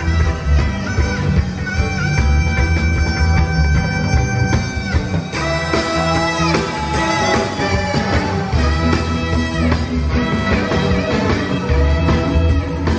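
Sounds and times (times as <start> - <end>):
horn section holding notes: 0.0 - 12.9
live rock band playing: 0.0 - 12.9.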